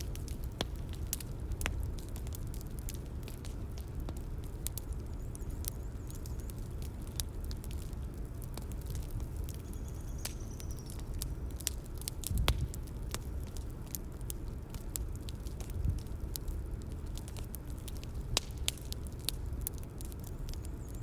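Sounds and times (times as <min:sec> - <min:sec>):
bonfire crackling and popping: 0:00.0 - 0:21.0
low rumble of burning: 0:00.0 - 0:21.0.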